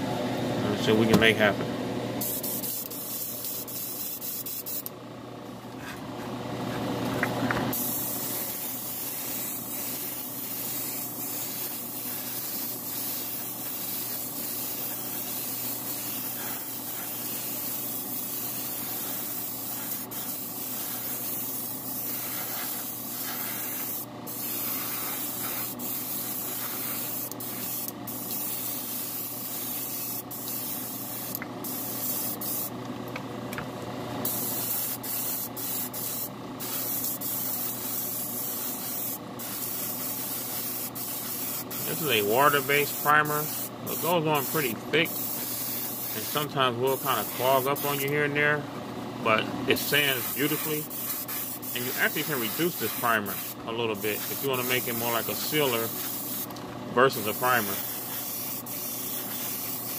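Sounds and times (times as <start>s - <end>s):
spray gun hissing: 2.2s - 4.9s, 7.7s - 32.7s, 34.3s - 48.1s, 49.8s - 56.5s, 57.2s - 59.9s.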